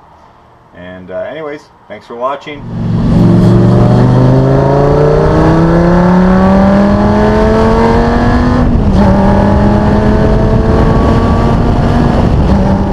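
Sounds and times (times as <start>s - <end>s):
vehicle engine accelerating: 2.6s - 12.9s.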